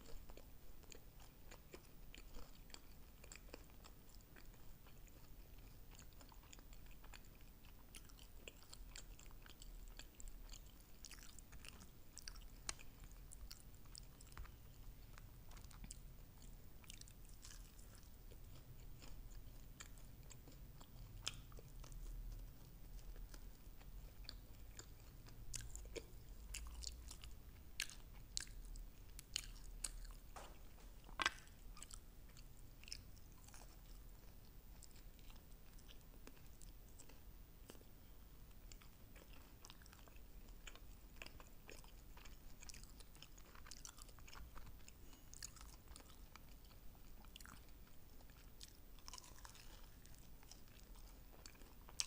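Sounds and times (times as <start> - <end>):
person chewing: 0.0 - 37.9, 38.5 - 52.0.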